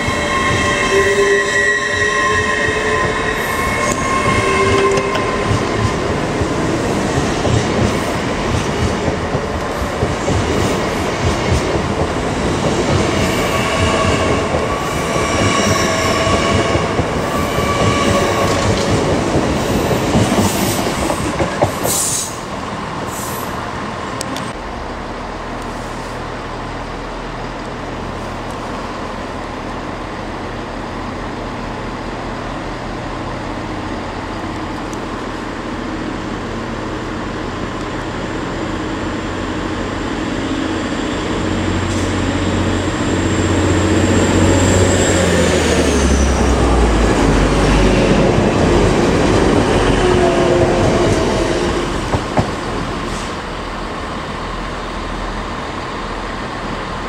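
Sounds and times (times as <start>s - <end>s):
train whining tone: 0.0s - 12.2s, 12.8s - 25.0s, 34.2s - 57.0s
express train passing: 0.0s - 57.0s
steady low train hum: 0.0s - 57.0s.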